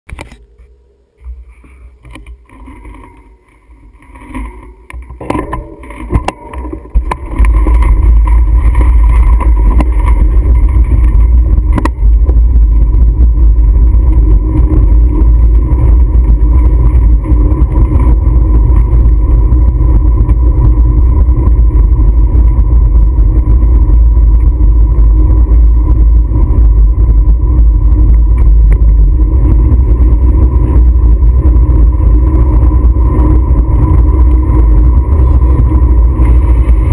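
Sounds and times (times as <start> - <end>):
motorcycle engine rumble: 0.1 - 36.9
wind on microphone: 1.3 - 36.9.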